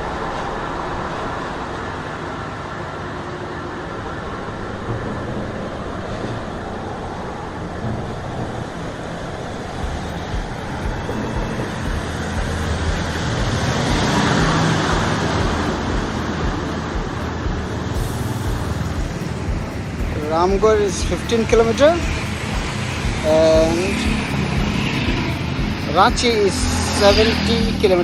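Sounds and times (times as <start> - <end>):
highway traffic passing: 0.0 - 28.0
wind rumbling on microphone: 0.0 - 28.0.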